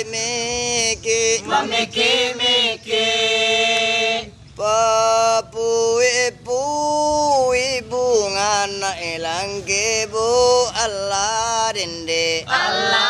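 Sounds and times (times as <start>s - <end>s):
man singing a chant: 0.0s - 2.9s, 4.2s - 13.0s.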